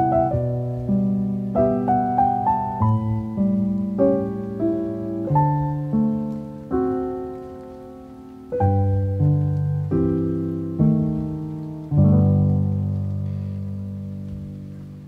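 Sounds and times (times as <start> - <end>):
soft solo piano: 0.0 - 15.0.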